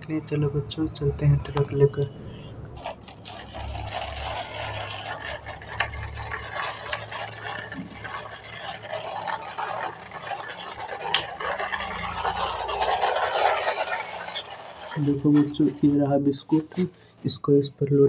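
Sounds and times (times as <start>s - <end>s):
toy truck wheels rattling on concrete: 1.6s - 17.4s.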